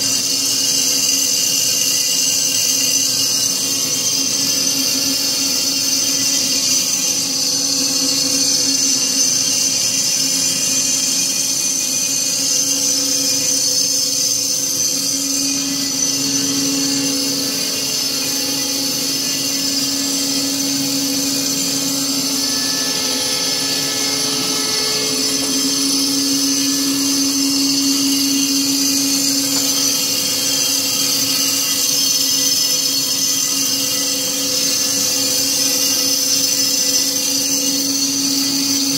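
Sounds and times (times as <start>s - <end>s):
bandsaw hum with high whine: 0.0s - 38.9s.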